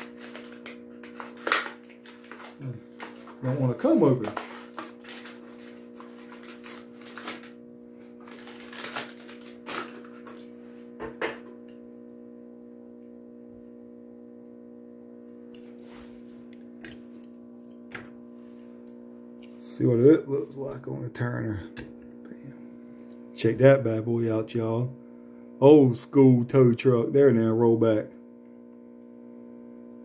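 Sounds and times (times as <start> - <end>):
turntable motor humming: 0.0 - 30.0.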